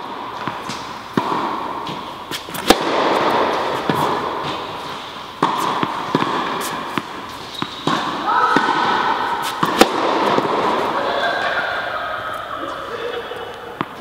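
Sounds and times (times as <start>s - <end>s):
tennis balls struck and bouncing: 0.0s - 11.7s, 13.7s - 14.0s
indoor hall background noise: 0.0s - 14.0s.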